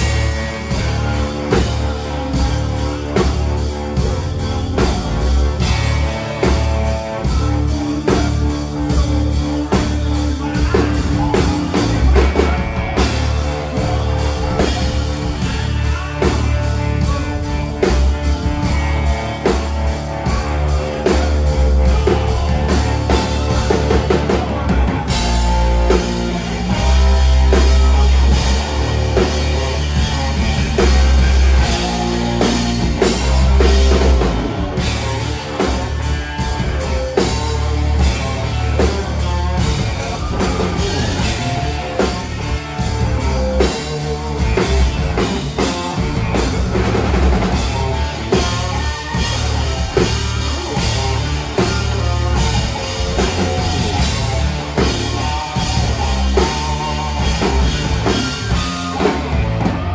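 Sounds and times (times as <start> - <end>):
drum kit: 0.0 - 59.9
electric guitars: 0.0 - 59.9
rock band playing live: 0.0 - 59.9.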